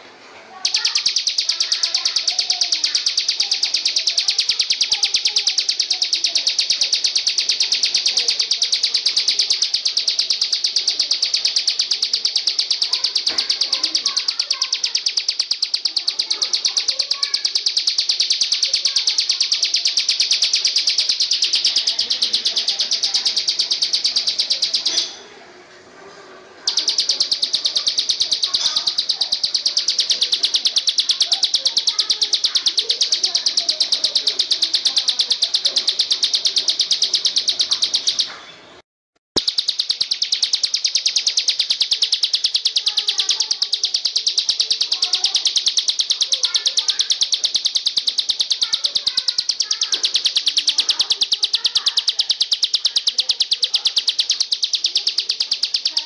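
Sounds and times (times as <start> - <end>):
songbird trilling: 0.5 - 25.2, 26.6 - 38.3, 39.4 - 56.0.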